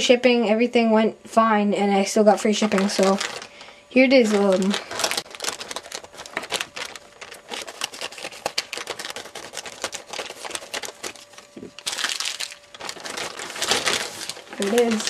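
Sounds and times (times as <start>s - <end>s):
plastic bag crinkling: 2.5s - 15.0s.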